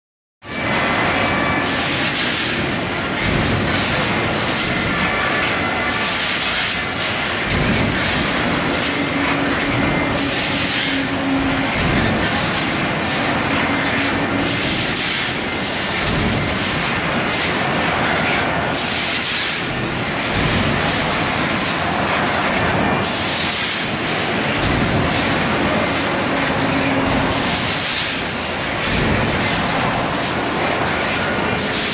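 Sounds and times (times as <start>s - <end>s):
industrial stamping press din: 0.4s - 31.9s.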